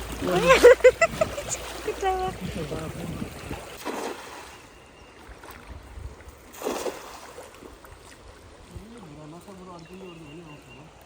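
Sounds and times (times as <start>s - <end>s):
water splashes: 0.0s - 11.0s.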